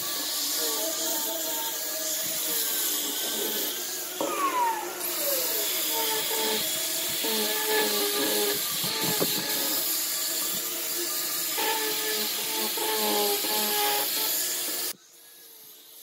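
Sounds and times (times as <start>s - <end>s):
motor winding down whine: 0.0s - 15.0s
angle grinder sanding wood: 0.0s - 16.0s.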